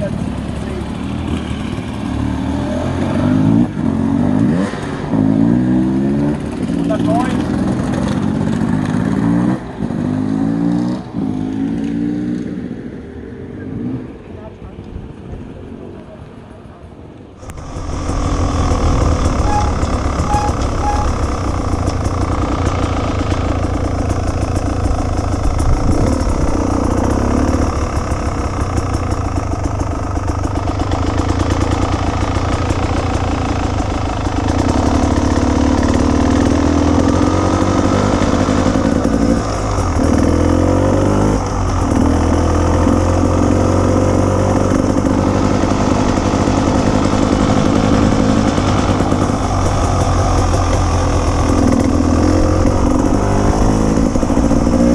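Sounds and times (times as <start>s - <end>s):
motorcycle engine running: 0.0s - 12.6s, 17.4s - 54.9s.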